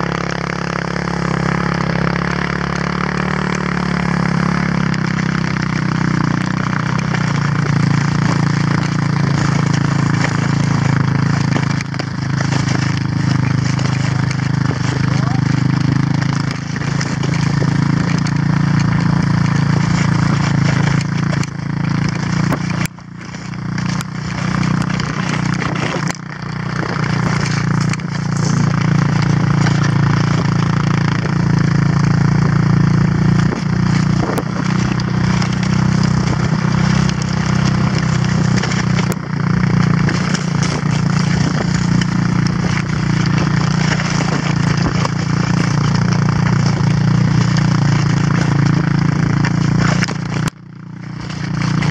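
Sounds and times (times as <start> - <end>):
constant rushing noise: 0.0 - 51.9
quad bike engine running: 0.0 - 51.9.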